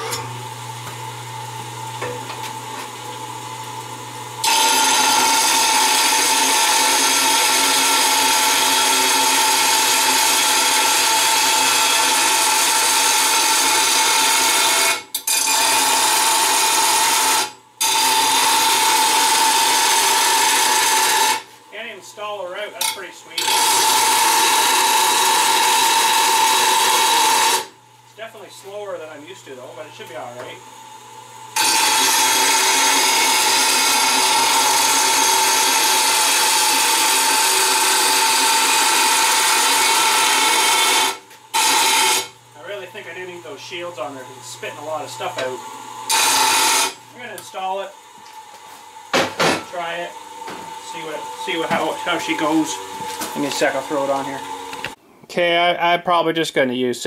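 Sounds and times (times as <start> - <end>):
bench grinder motor hum: 0.0 - 21.6, 23.3 - 27.8, 28.7 - 55.0.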